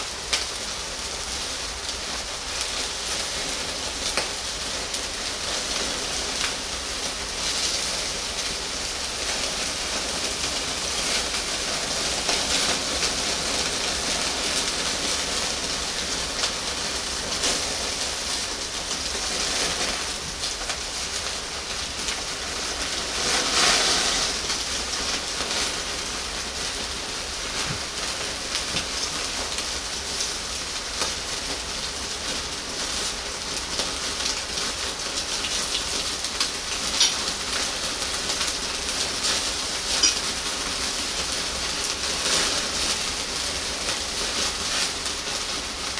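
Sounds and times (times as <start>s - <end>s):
meat sizzling on a grill: 0.0s - 45.9s.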